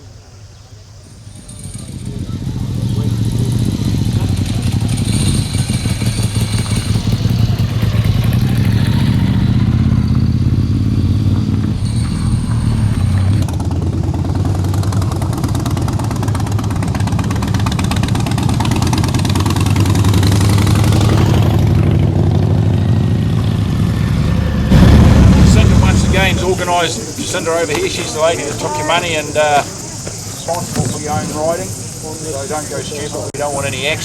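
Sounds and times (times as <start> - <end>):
motorcycle engine running: 1.2 - 32.0.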